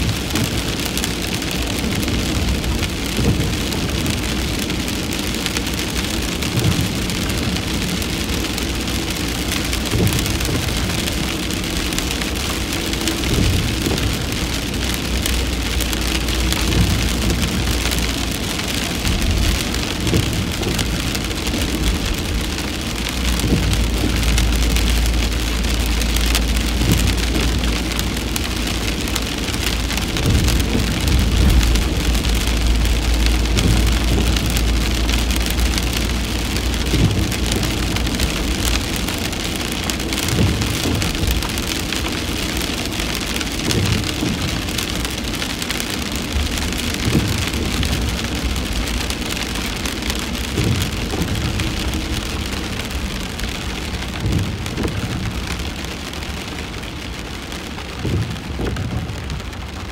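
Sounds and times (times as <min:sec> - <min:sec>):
car engine idling: 0:00.0 - 0:59.9
rain on a car roof: 0:00.0 - 0:59.9.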